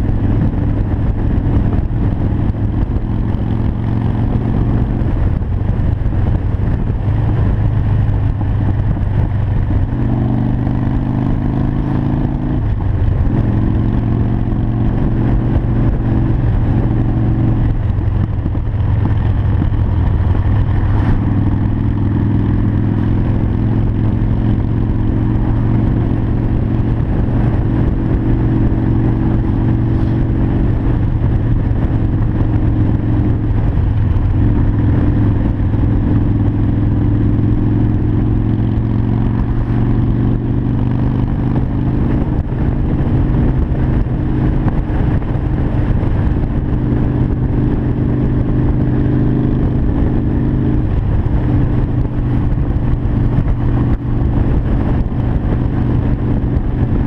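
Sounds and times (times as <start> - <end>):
motorcycle engine cruising: 0.0 - 57.0
wind noise: 0.0 - 57.0.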